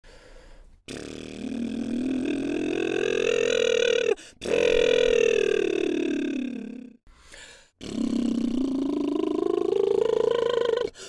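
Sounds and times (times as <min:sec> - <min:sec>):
man doing lip trill: 0:00.8 - 0:11.0.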